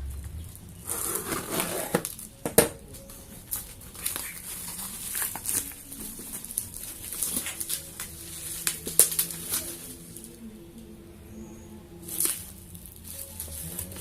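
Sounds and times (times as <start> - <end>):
packaging rustling and crinkling: 0.2 - 10.5, 12.0 - 14.0.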